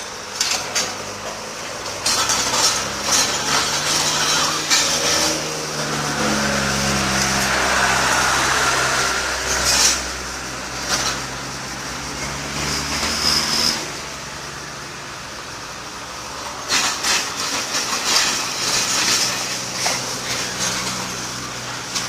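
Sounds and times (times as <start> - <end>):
backhoe engine humming: 0.0 - 22.0
metal wheels grinding on concrete: 0.0 - 22.0.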